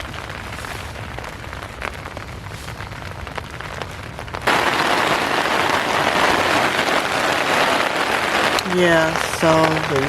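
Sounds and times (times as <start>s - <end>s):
rain pattering on a tent: 0.0s - 10.0s.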